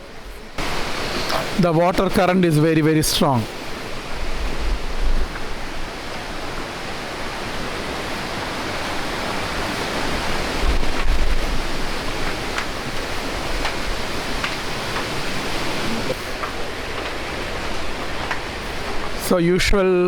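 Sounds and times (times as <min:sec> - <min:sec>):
roar of waterfall: 0:00.0 - 0:19.2
wind buffeting microphone: 0:00.0 - 0:19.7.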